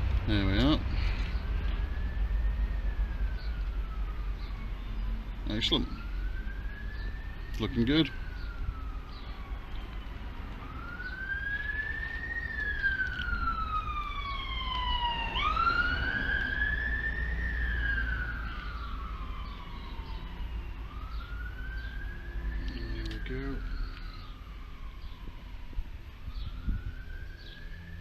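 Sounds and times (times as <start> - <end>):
distant siren wailing: 0.5 - 28.0.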